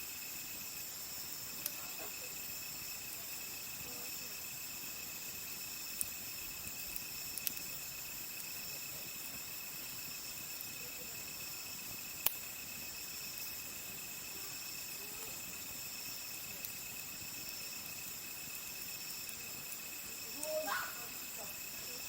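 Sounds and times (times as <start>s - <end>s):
campfire wood popping: 0.0s - 22.0s
crickets chirping: 0.0s - 22.0s.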